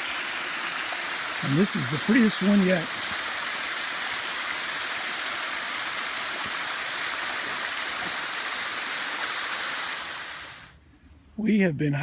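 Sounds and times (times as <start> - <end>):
waterfall rushing water: 0.0 - 10.7.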